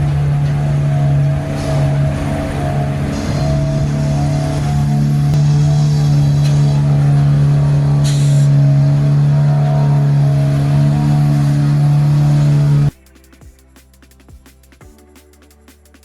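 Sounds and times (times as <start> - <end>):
heavy engine droning: 0.0 - 12.9.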